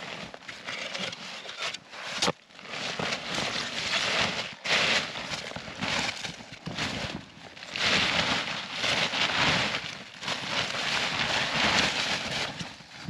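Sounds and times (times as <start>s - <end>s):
plastic tarp rustling: 0.0s - 13.0s
snow crunching: 2.0s - 13.0s.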